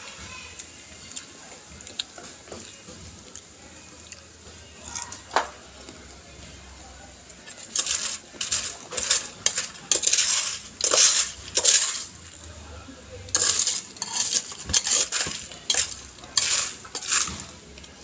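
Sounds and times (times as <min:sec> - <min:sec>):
popcorn crunching and rustling: 0:00.5 - 0:06.2, 0:07.2 - 0:18.0.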